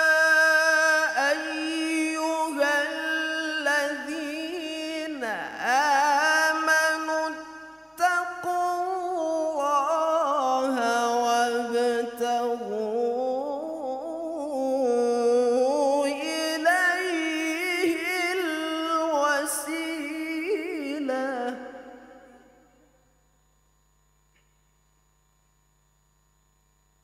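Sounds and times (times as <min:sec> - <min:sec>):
man reciting melodically: 0:00.0 - 0:22.7.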